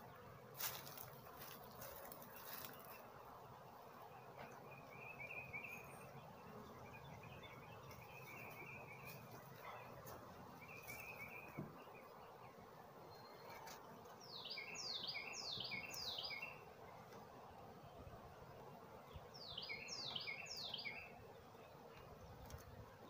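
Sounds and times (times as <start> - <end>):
honeybees humming: 0.0 - 23.0.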